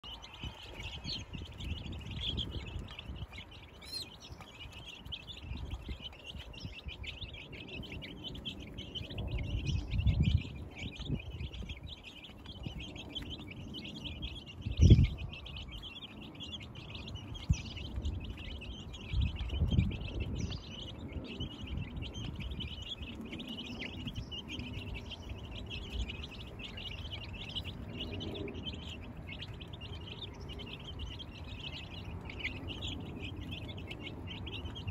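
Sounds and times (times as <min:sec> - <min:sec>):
chicks peeping: 0:00.0 - 0:34.9
low rumbles: 0:00.0 - 0:34.9.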